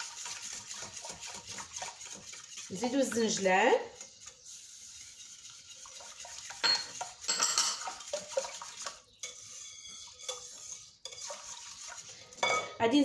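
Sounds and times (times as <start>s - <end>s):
whisk beating batter in bowl: 0.0s - 12.4s.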